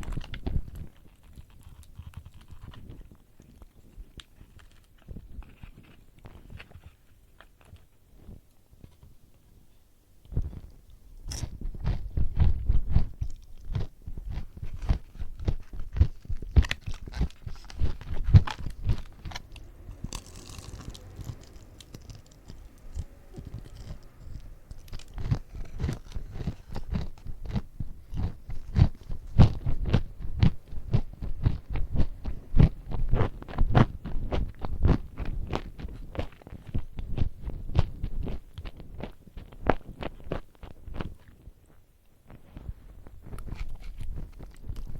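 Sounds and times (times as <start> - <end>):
chewing crispy fried chicken: 0.0 - 8.5, 10.2 - 41.9, 43.2 - 44.9.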